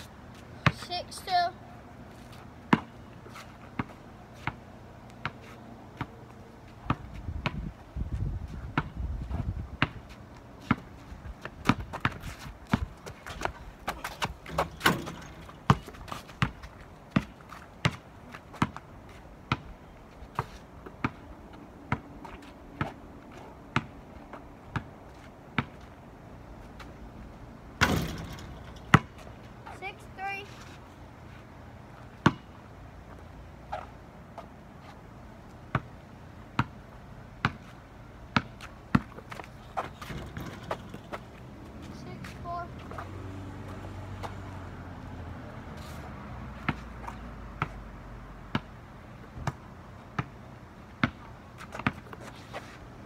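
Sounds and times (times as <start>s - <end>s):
basketball bouncing on asphalt: 0.3s - 1.2s, 2.1s - 26.0s, 27.8s - 30.0s, 31.8s - 34.5s, 35.5s - 44.6s, 46.6s - 52.4s.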